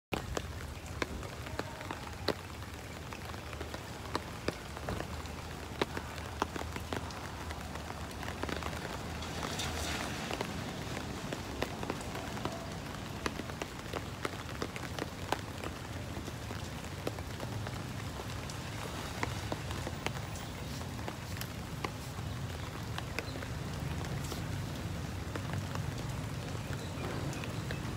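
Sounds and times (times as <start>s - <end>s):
steady rain falling: 0.1s - 27.9s.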